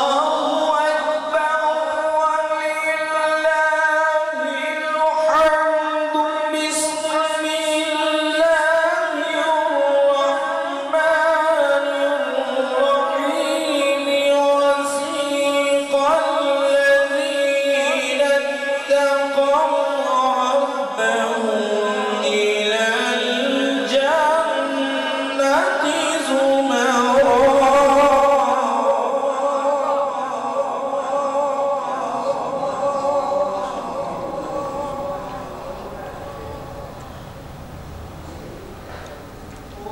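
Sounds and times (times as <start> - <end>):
man reciting melodically: 0.0 - 39.9.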